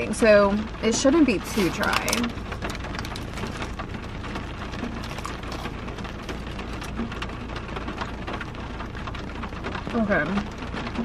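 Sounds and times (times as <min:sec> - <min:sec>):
heavy rain falling: 0:00.0 - 0:11.0
raindrops ticking on a surface: 0:00.0 - 0:11.0.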